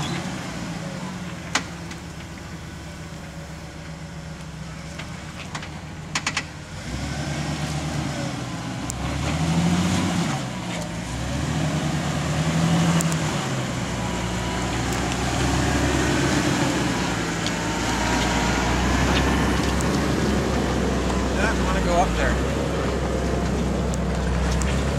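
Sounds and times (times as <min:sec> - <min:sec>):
engine working at low revs: 0:00.0 - 0:24.9.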